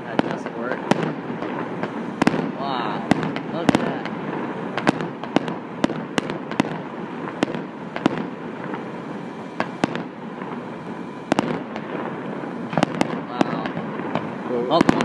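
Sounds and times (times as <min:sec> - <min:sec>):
firework shell bursts: 0:00.0 - 0:15.0
steady background noise: 0:00.0 - 0:15.0.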